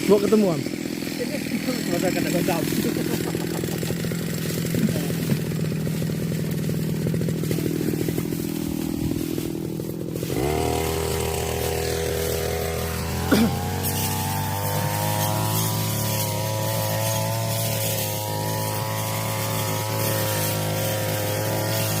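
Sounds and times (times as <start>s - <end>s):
brush cutter engine running: 0.0s - 22.0s.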